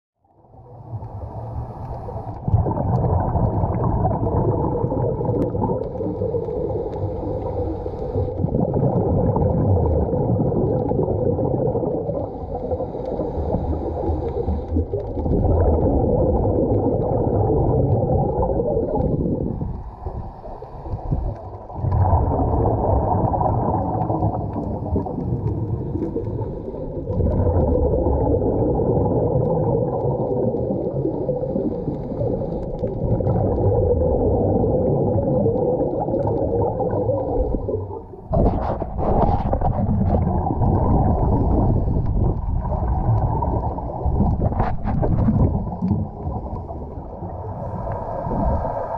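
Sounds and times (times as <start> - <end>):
muffled underwater rush and bubbling: 0.2 - 48.9.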